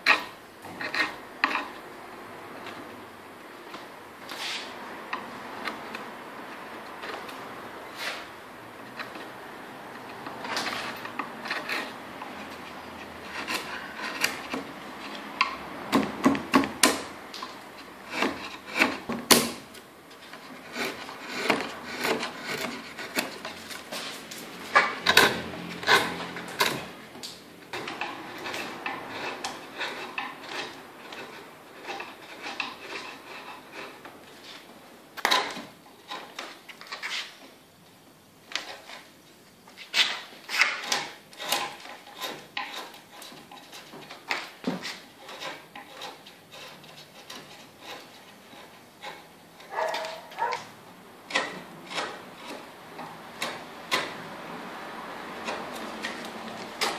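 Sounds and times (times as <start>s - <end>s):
blade scraping wood: 0.0s - 1.8s, 3.8s - 37.5s, 38.6s - 56.9s.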